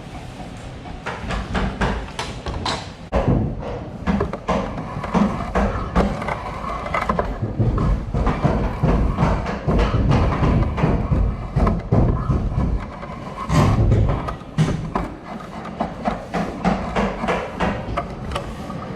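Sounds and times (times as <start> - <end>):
woodworking knocks and thuds: 1.0 - 18.9
wood scraping: 3.1 - 18.9.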